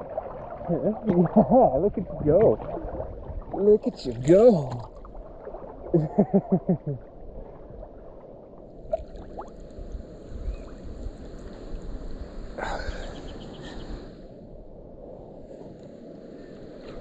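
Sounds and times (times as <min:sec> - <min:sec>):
low rumble of wind: 0:00.0 - 0:17.0
river water lapping and sloshing: 0:00.0 - 0:17.0.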